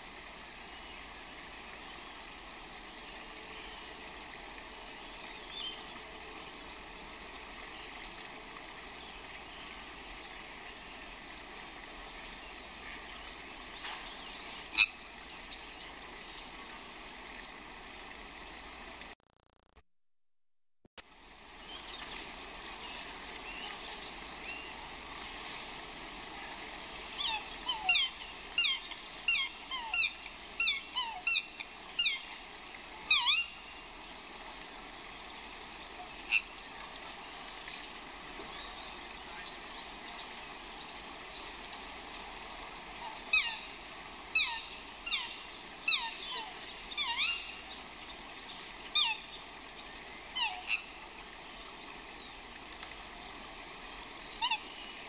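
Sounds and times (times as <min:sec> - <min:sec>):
rain hiss: 0:00.0 - 0:19.2, 0:21.0 - 0:55.0.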